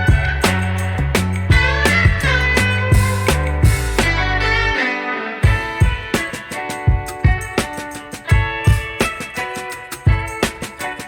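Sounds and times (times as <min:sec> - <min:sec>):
plucked guitar over bass and drums: 0:00.0 - 0:04.8, 0:05.4 - 0:11.0.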